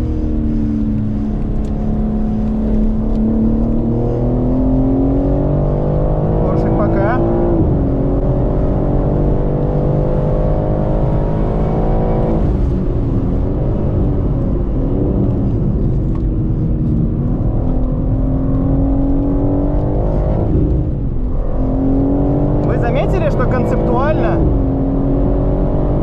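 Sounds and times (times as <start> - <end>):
car engine revving in cabin: 0.0 - 26.0.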